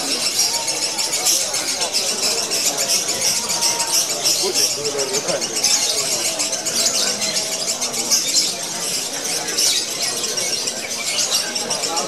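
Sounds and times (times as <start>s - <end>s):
lovebird chattering song: 0.0s - 12.0s.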